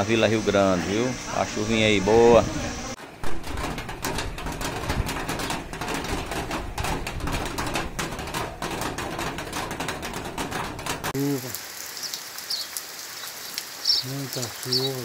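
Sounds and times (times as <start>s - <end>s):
rain falling: 2.6s - 15.0s.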